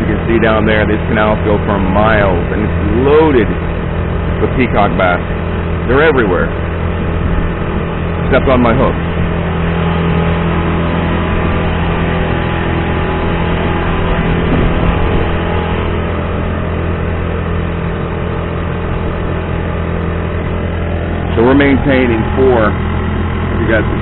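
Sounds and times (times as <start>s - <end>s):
outboard engine running: 0.0s - 24.0s.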